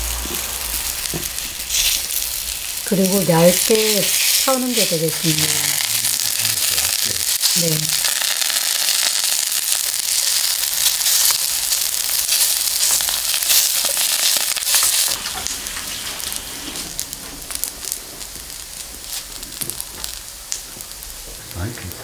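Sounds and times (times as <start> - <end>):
crackling pops: 0.0 - 22.0
onion strips sizzling in oil: 0.0 - 22.0.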